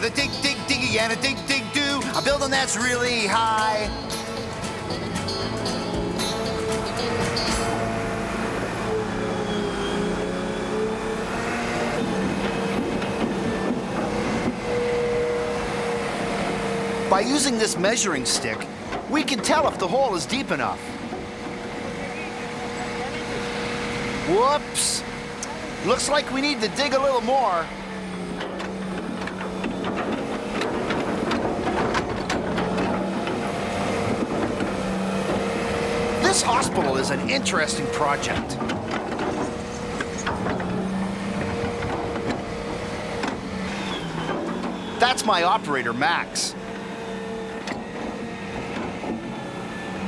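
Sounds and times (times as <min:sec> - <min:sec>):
excavator engine running: 0:00.0 - 0:50.0.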